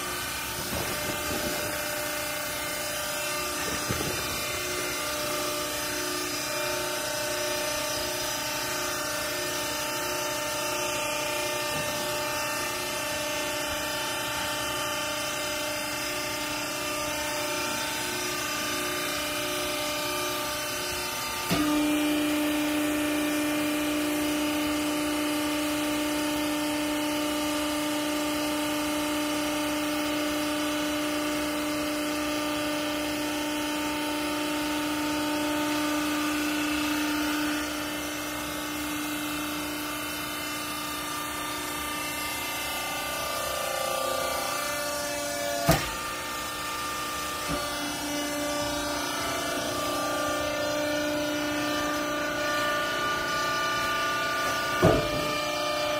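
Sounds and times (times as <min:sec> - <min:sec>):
hydraulic pump motor humming: 0:00.0 - 0:55.9.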